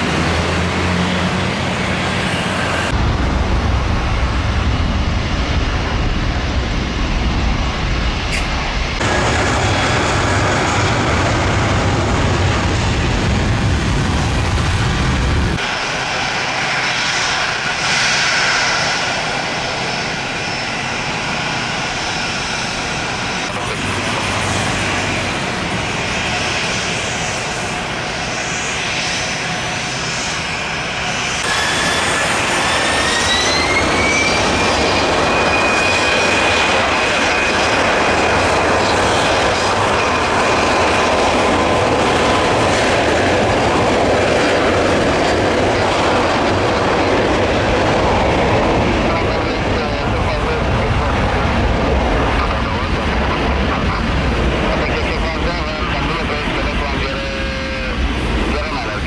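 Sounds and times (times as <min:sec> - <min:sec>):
high engine whine: 0:00.0 - 0:59.0
jet engines roaring: 0:00.0 - 0:59.0.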